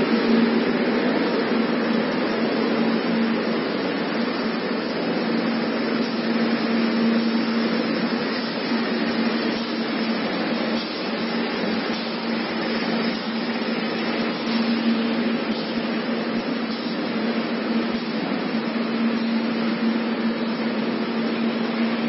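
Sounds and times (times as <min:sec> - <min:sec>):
machine running with low hum: 0:00.0 - 0:22.0.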